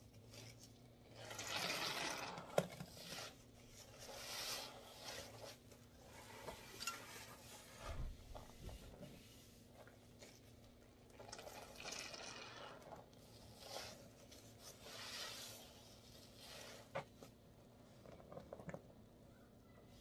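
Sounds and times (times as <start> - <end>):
sponge squelching in soapy water: 0.0 - 17.0.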